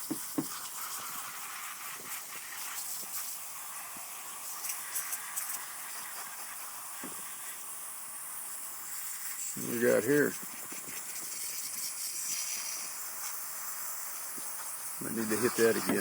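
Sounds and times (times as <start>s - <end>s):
hose spraying water: 0.0s - 16.0s.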